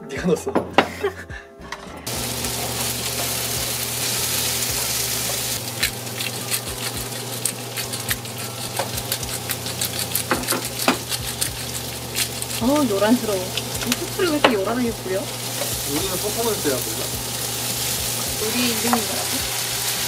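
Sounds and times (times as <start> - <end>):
stew boiling and bubbling: 2.1 - 20.0.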